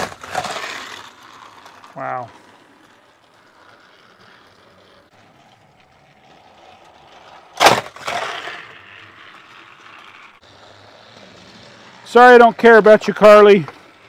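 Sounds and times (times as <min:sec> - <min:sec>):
toy train engine whirring: 0:00.6 - 0:07.6, 0:08.5 - 0:14.0.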